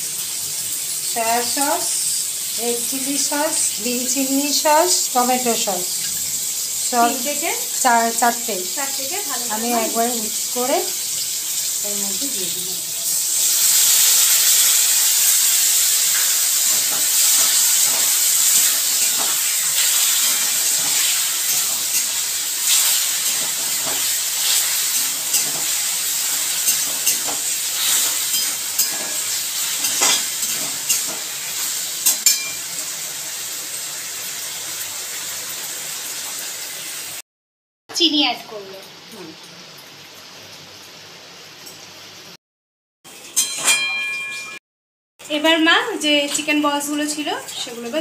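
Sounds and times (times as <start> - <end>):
vegetables sizzling in a wok: 0.0 - 37.2, 37.9 - 42.4, 45.2 - 48.0.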